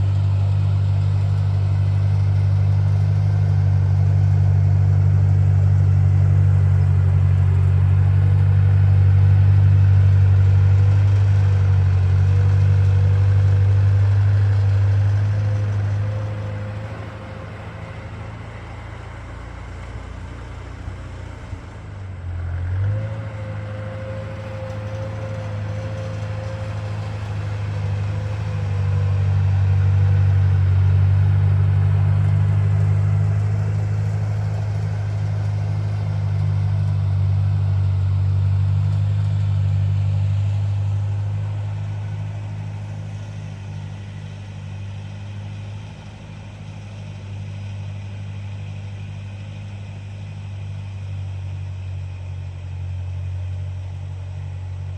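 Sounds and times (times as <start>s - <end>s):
tractor engine under load: 0.0s - 54.9s.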